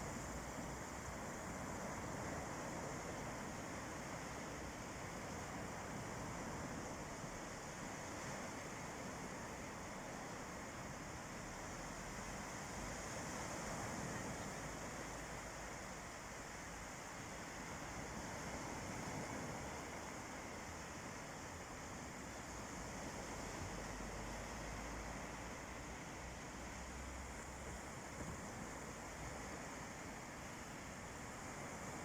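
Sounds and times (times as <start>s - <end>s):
small waves washing on shore: 0.0s - 32.0s.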